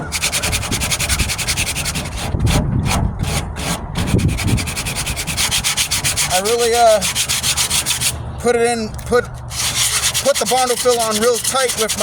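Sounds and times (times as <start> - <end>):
sandpaper rubbing on filler: 0.0 - 8.2, 9.4 - 12.0.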